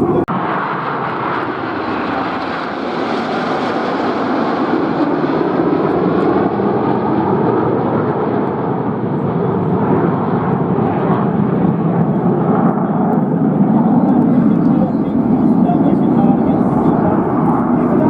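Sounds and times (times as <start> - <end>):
aircraft engine roar: 0.0 - 18.0.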